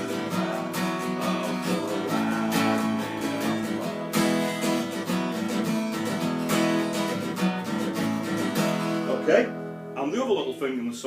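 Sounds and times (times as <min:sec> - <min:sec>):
acoustic guitar strummed: 0:00.0 - 0:10.6.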